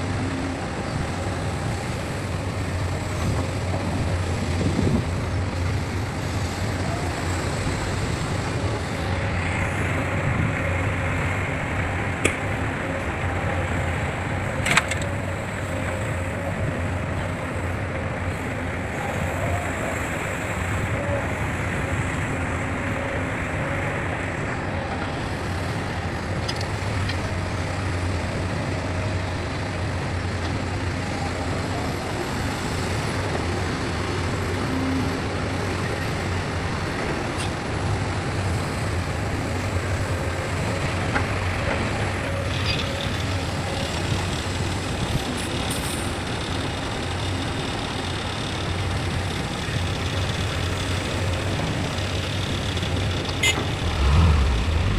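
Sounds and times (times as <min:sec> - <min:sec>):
heavy diesel machinery humming: 0:00.0 - 0:54.9.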